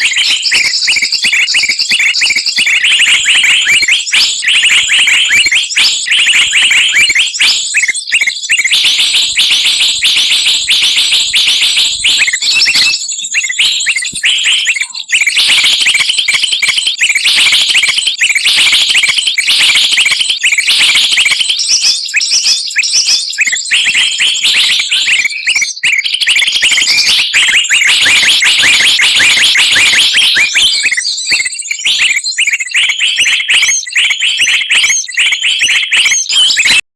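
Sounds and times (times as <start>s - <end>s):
songbirds chirping and trilling: 0.0s - 36.8s.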